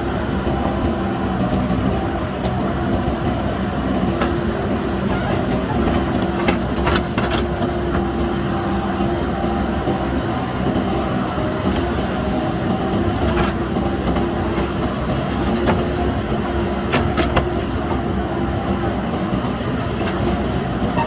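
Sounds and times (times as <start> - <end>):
backhoe diesel engine under load: 0.0 - 21.0.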